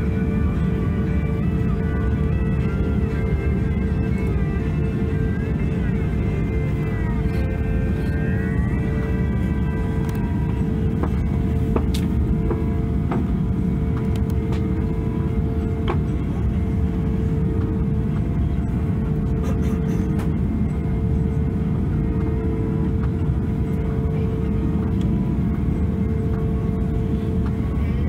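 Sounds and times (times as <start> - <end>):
aircraft engines rumbling: 0.0 - 28.0.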